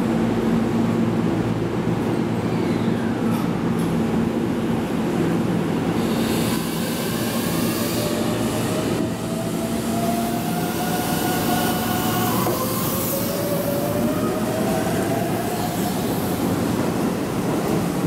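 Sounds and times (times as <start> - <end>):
electric train low hum: 0.0 - 18.0
train high whine: 0.0 - 18.0.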